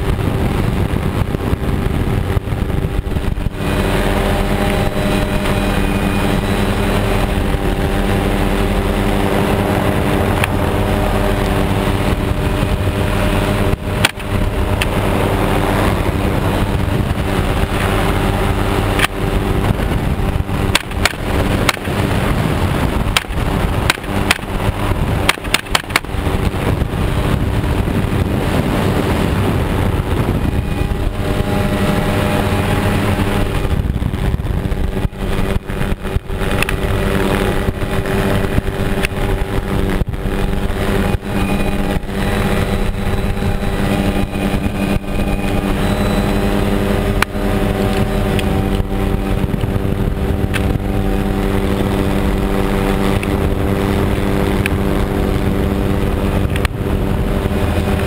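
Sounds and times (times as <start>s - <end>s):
helicopter engine and rotor drone: 0.0s - 58.0s
wind rushing over microphone: 0.0s - 58.0s.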